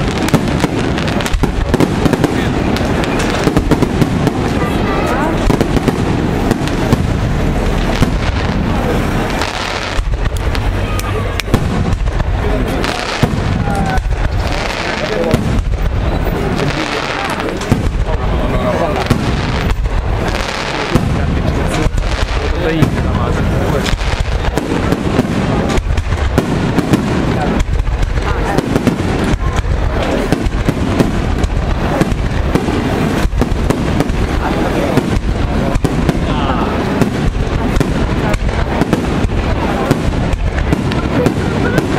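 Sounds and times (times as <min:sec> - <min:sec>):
firework bangs and crackles: 0:00.0 - 0:41.9.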